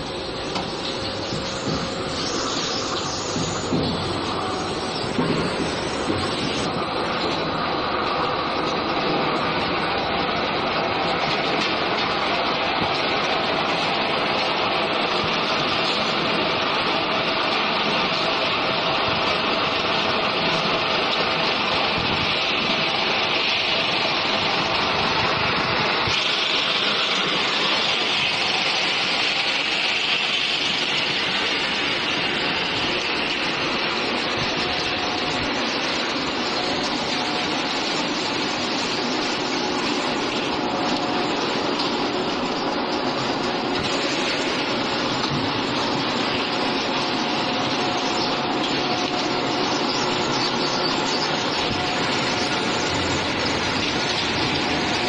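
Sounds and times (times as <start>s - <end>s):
conveyor belts running: 0.0s - 55.0s.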